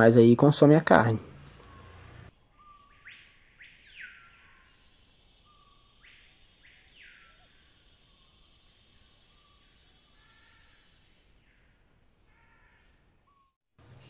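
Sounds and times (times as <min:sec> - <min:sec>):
faint bird calls: 0:01.3 - 0:14.0.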